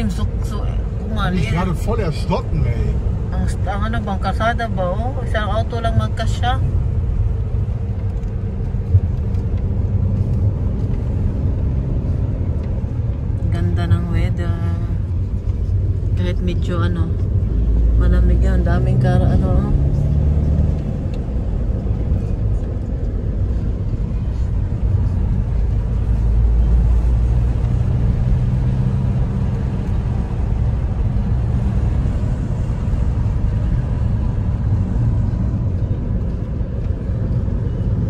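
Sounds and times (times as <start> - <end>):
car interior engine and tyre rumble: 0.0 - 38.0.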